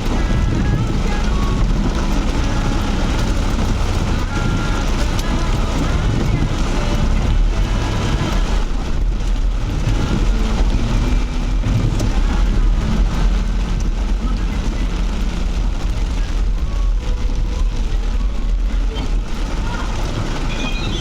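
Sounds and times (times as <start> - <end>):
heavy rain falling: 0.0 - 21.0
off-road vehicle engine running: 0.0 - 21.0.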